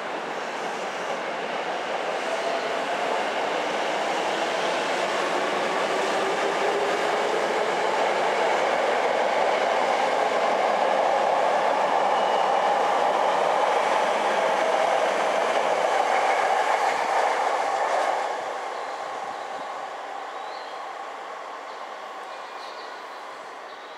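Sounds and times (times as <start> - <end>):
train wheels rushing on rails: 0.0 - 23.9.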